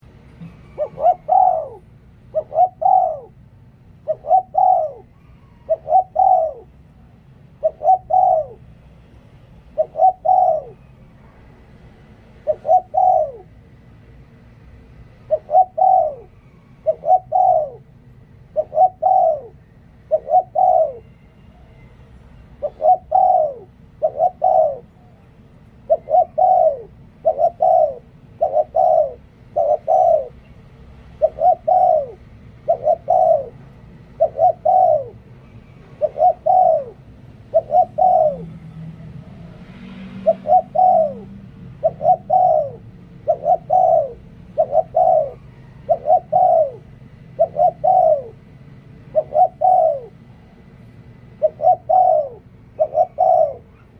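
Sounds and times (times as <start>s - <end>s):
dove cooing: 0.0s - 8.8s, 9.5s - 53.9s.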